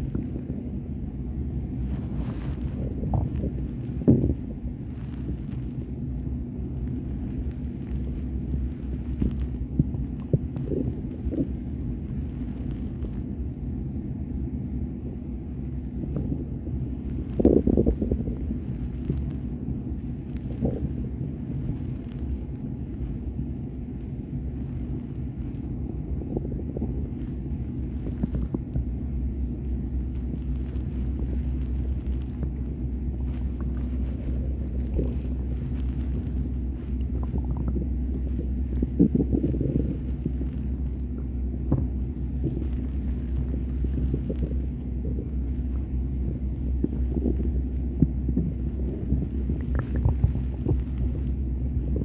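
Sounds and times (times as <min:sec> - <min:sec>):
stomach growling: 0:00.0 - 0:52.0
stomach gurgles: 0:00.0 - 0:52.0.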